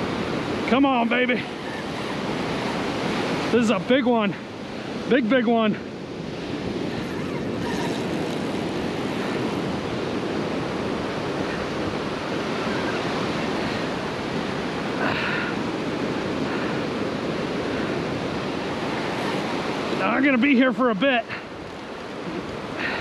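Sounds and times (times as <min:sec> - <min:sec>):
ocean surf washing up beach: 0:00.0 - 0:23.0.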